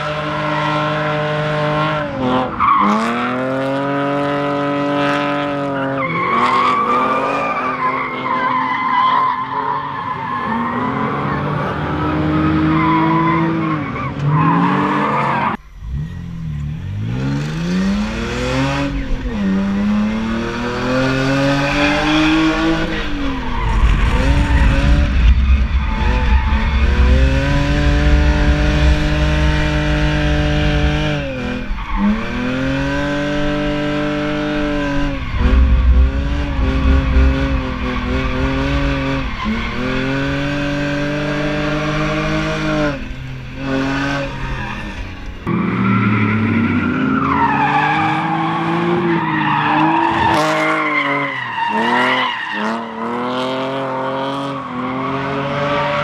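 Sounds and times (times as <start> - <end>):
car engine revving: 10.4 - 56.0.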